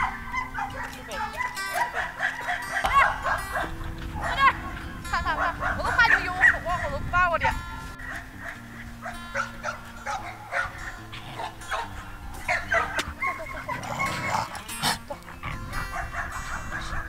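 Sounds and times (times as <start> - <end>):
background music with held notes: 0.0 - 17.0
dogs barking: 0.0 - 17.0.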